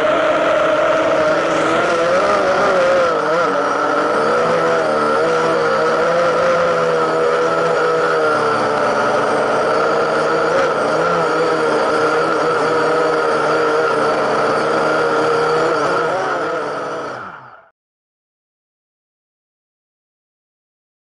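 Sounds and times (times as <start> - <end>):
drone propellers whining: 0.0 - 17.7.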